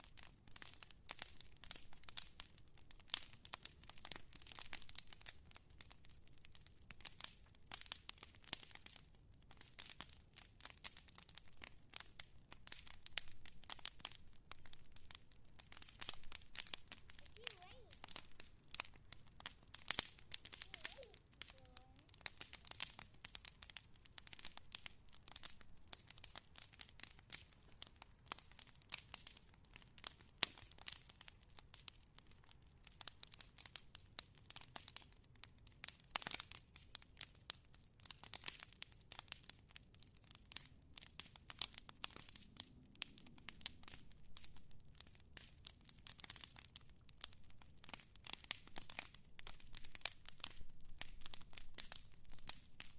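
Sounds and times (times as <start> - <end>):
fire crackling and popping: 0.0 - 52.9.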